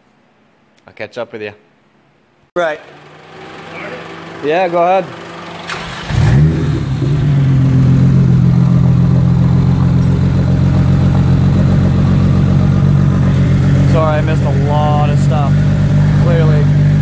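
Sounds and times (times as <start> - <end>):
car engine starting and idling: 2.6 - 17.0.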